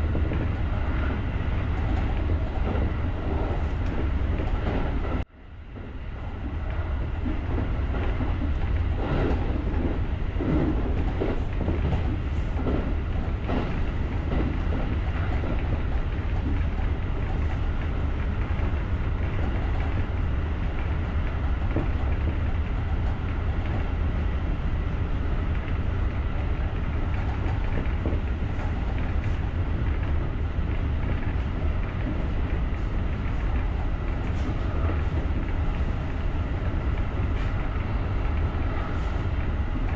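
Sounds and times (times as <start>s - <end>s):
low rumble of train wheels: 0.0s - 39.9s.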